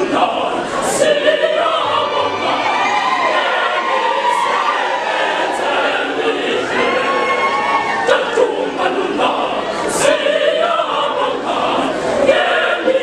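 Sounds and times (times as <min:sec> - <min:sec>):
choir singing in parts: 0:00.0 - 0:13.0.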